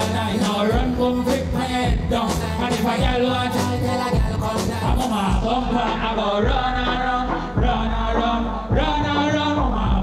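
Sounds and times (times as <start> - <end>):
dancehall backing track with bass: 0.0 - 10.0
man singing dancehall: 0.0 - 10.0.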